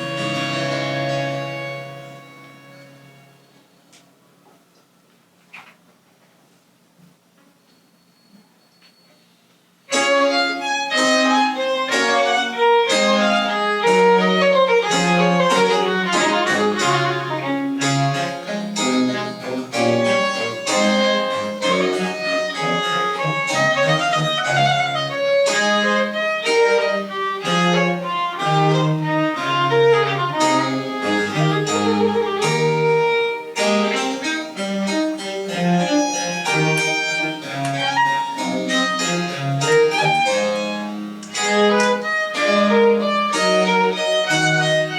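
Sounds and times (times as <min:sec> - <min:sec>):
baroque chamber ensemble: 0:00.0 - 0:03.4, 0:09.9 - 0:44.9.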